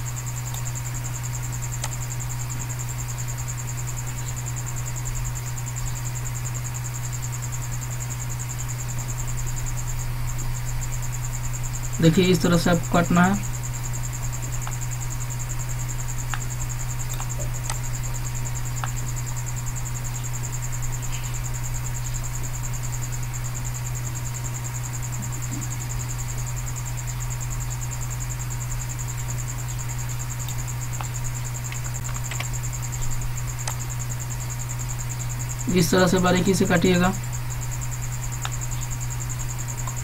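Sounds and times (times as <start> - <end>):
high pulsing whine: 0.0 - 40.0
low electrical hum: 0.0 - 40.0.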